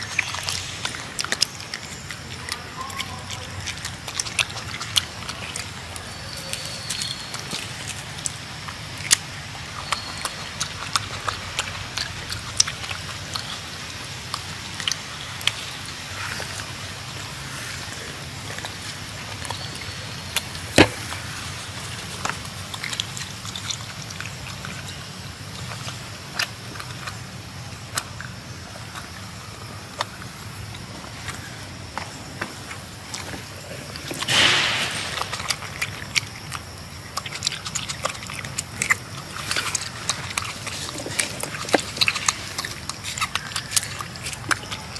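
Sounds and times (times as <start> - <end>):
monkey chewing and smacking: 0.0 - 44.9
steady outdoor hiss: 0.0 - 44.9.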